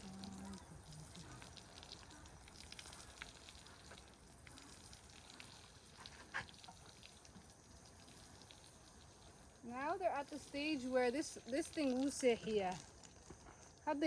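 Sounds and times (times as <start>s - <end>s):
faint ticks and crackles: 0.0s - 14.0s.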